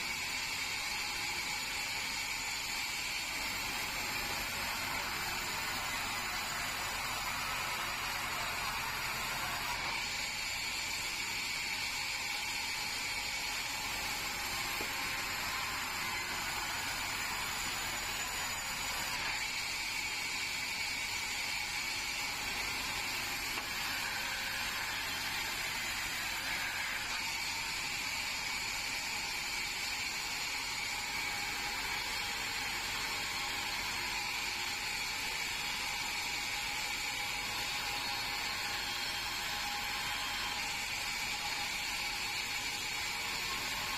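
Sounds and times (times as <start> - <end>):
band sawmill running: 0.0 - 43.9.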